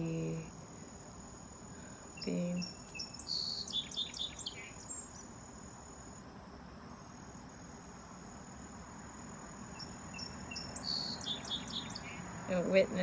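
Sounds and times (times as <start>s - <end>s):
faint outdoor background hum: 0.0s - 13.0s
insects trilling: 0.0s - 13.0s.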